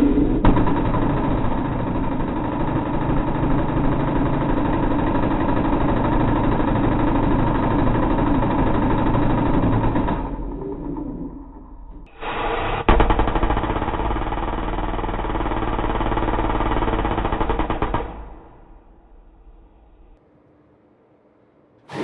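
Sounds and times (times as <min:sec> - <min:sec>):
rotary cannon firing: 0:00.0 - 0:20.2.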